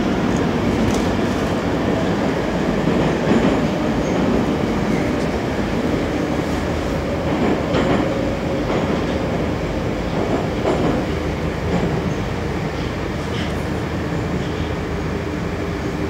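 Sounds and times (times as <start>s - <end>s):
metro train rumbling: 0.0s - 16.0s.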